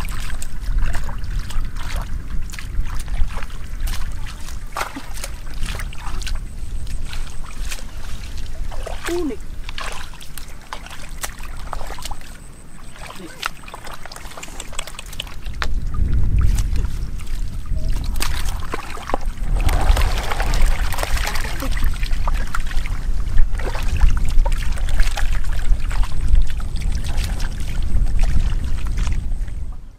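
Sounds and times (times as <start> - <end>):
wind buffeting microphone: 0.0 - 13.3, 14.5 - 29.9
splashes of shallow water: 0.0 - 29.8.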